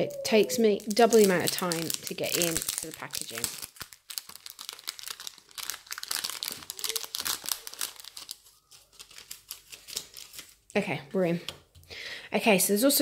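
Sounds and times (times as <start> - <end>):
plastic packet crinkling: 0.0 - 10.8.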